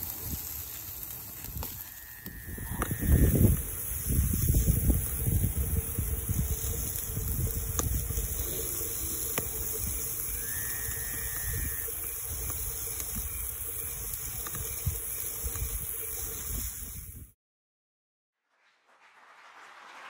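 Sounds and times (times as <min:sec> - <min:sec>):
low fluttering fire rumble: 0:00.0 - 0:17.3
shrimp sizzling on a grill: 0:00.0 - 0:17.3.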